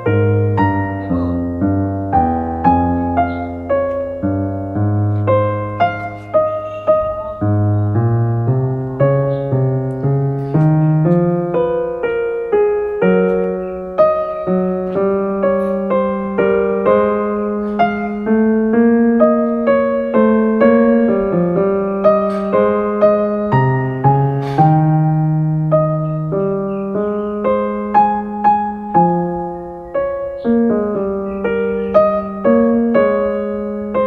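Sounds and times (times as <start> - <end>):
gentle piano melody: 0.0 - 34.0.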